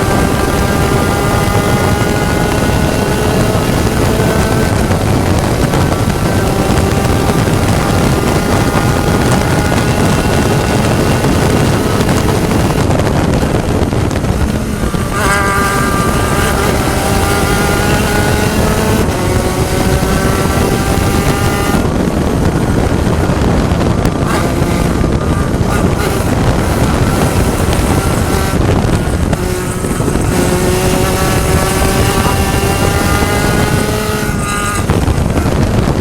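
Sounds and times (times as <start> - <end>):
race car engine running hard: 0.0 - 36.0
wind noise: 0.0 - 36.0.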